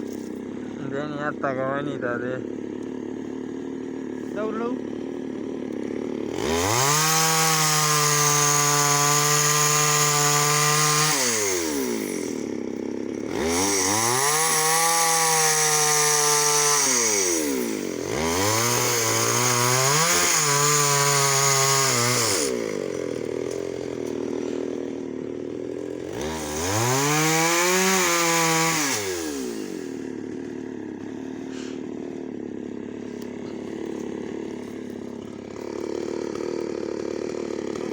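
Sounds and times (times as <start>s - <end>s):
chainsaw engine revving and idling: 0.0s - 37.9s.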